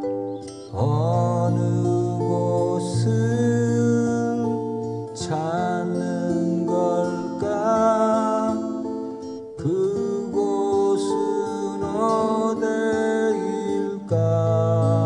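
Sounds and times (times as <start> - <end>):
acoustic guitar: 0.0 - 15.0
man singing: 0.7 - 15.0.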